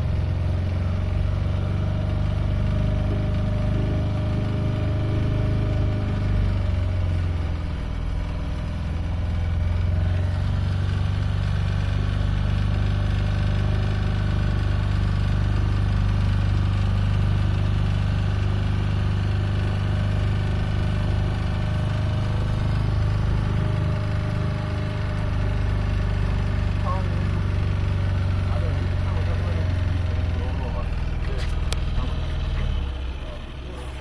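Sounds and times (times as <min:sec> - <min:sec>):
motorboat engine humming: 0:00.0 - 0:34.0.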